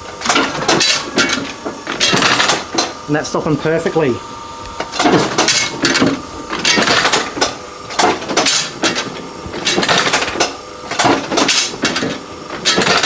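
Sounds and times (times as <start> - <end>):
machine clattering metal on metal: 0.2 - 3.0, 4.9 - 13.0.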